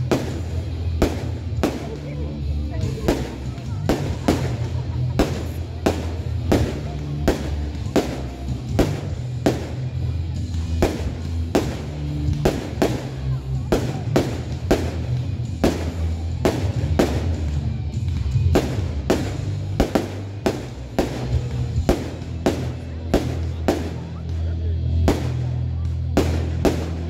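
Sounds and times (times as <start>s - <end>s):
music with steady bass line: 0.0s - 27.0s.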